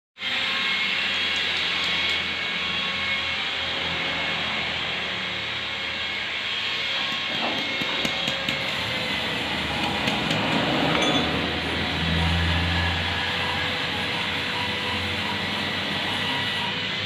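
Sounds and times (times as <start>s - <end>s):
power tool running: 0.2s - 17.0s.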